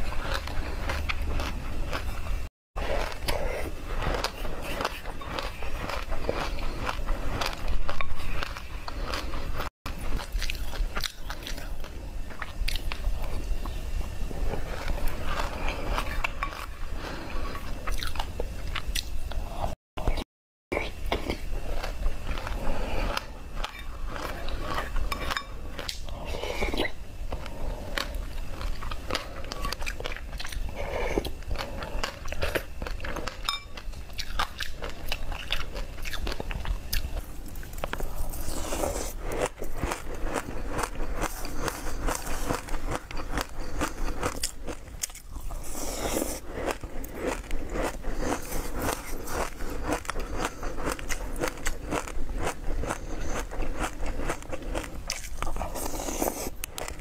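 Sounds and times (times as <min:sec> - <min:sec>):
person chewing crunchy seeds: 0:00.0 - 0:57.0.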